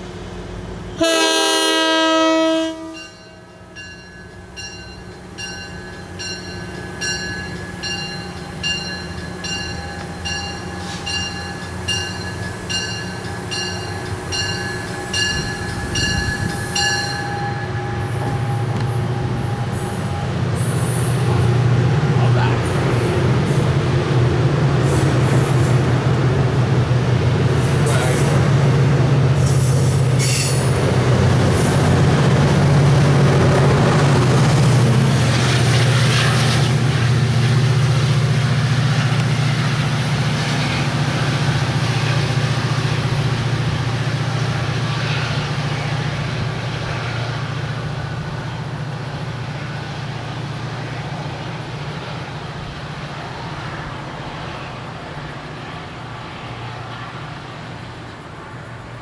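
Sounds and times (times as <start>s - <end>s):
diesel locomotive drone: 0.0s - 59.0s
train wheels rumbling on rail: 0.0s - 59.0s.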